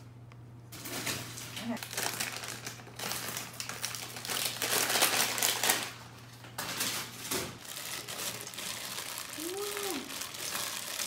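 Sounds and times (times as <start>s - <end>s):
plastic bags crinkling: 0.8s - 11.0s.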